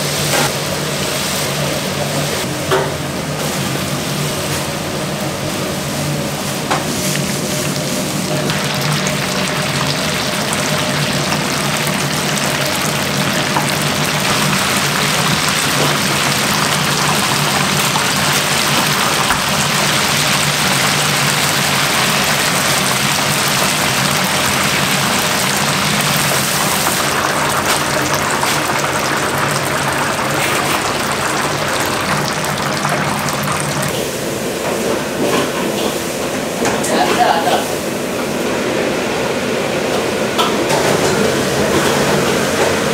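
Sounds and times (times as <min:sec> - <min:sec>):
low hum of burners and fans: 0:00.0 - 0:42.9.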